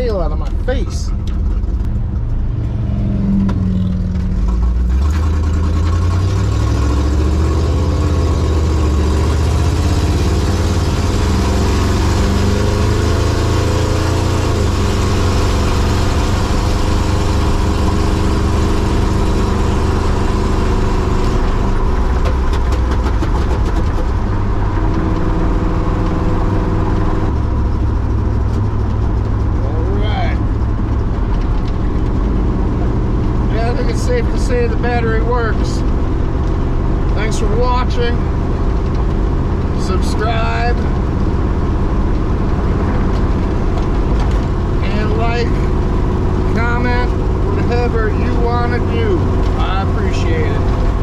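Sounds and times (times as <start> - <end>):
pickup truck engine running: 0.0 - 51.0.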